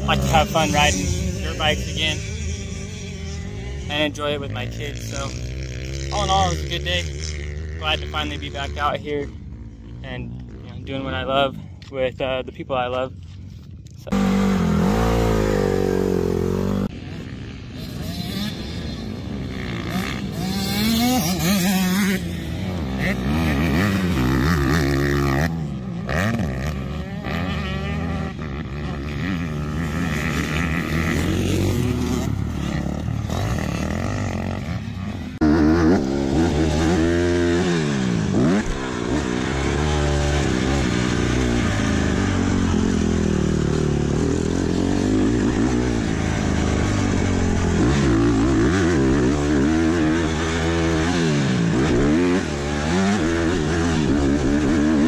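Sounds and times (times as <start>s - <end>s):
dirt bike engine revving: 0.0s - 11.6s, 14.1s - 55.0s.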